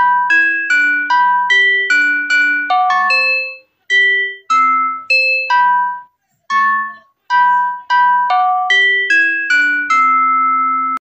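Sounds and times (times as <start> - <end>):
chime-like mallet melody: 0.0 - 11.0.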